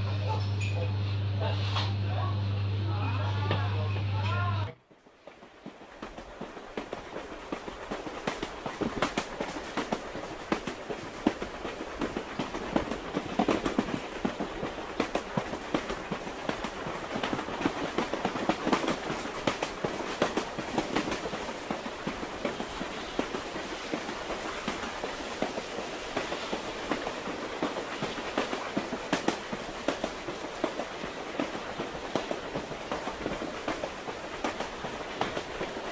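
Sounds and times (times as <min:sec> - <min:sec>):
train rumbling on rails: 0:03.1 - 0:35.9
train wheels clicking and knocking: 0:04.8 - 0:35.9.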